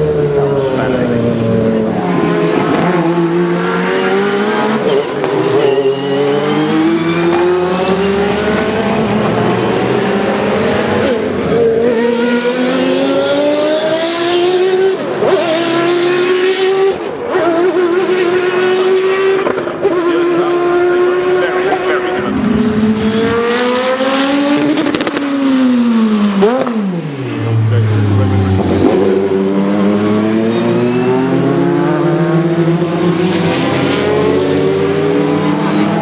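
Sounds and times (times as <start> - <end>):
race car engines at full throttle: 0.0 - 36.0.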